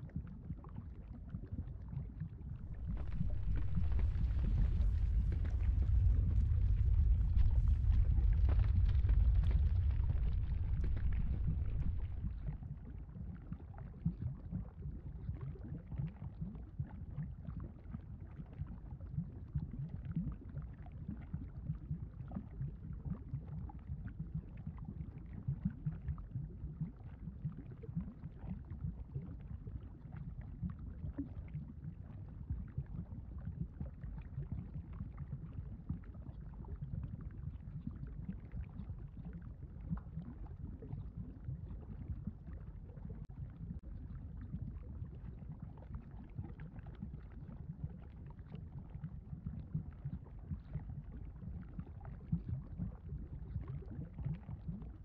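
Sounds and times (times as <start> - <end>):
low lava rumble: 0.0 - 55.0
bubbling gurgling pops: 0.2 - 55.0.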